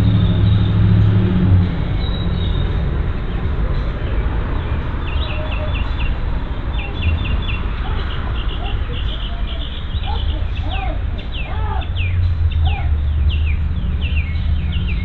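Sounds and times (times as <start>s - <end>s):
steady low rumble: 0.0s - 15.0s
songbird down-slurred notes: 1.9s - 15.0s.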